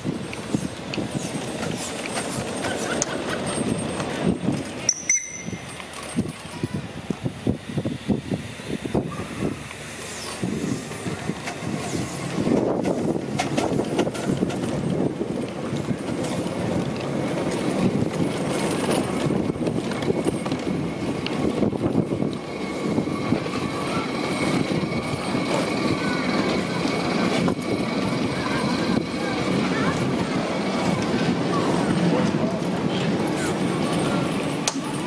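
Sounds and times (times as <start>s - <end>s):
wheels clattering on rails: 0.0s - 7.6s, 8.9s - 35.0s
steam locomotive chuffing: 0.0s - 35.0s.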